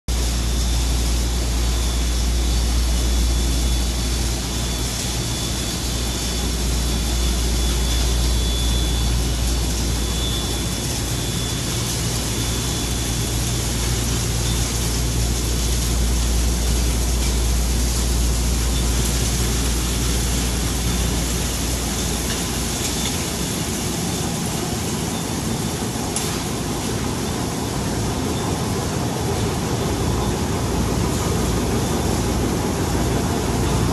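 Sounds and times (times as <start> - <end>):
industrial machine whir: 0.1 - 33.9.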